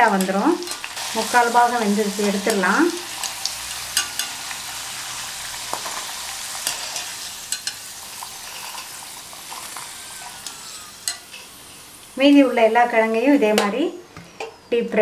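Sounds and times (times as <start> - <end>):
food sizzling in hot oil: 0.0 - 13.6.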